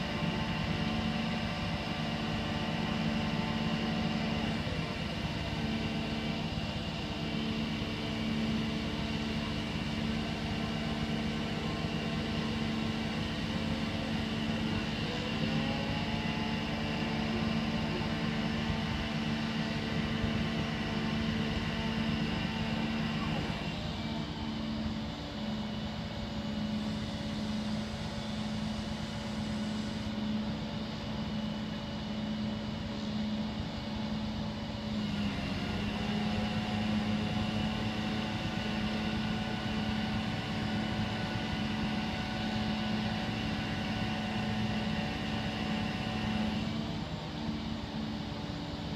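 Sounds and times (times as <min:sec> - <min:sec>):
crane engine droning: 0:00.0 - 0:48.9.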